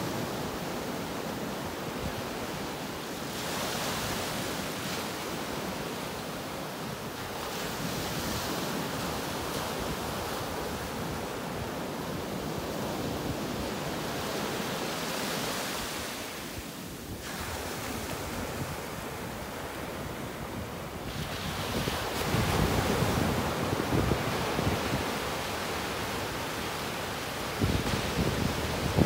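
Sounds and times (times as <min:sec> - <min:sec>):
waves breaking on shore: 0:00.0 - 0:29.0.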